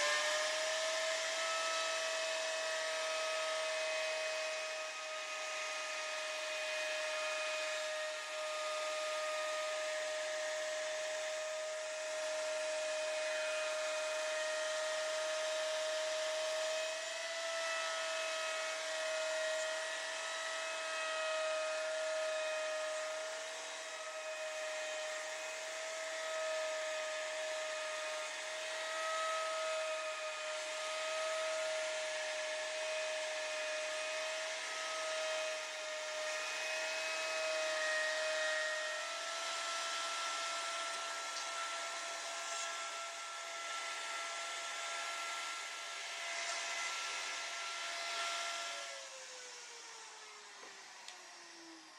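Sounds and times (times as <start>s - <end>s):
electric wood router whining: 0.0s - 51.9s.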